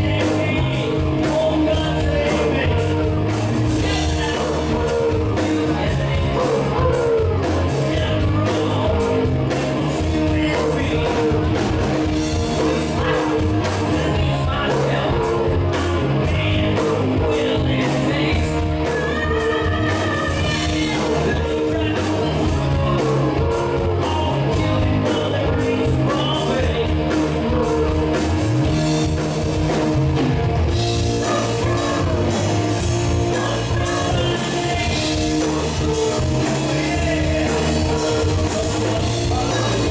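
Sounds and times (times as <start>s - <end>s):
man singing: 0.0s - 28.9s, 31.0s - 39.9s
live rock band playing: 0.0s - 39.9s.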